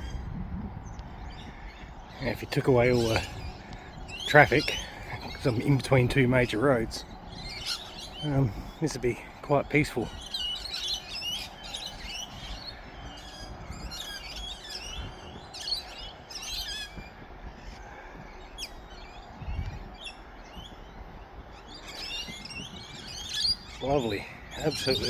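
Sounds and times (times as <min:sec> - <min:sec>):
birds chirping and warbling: 0:00.0 - 0:25.0
distant road traffic hum: 0:00.7 - 0:25.0.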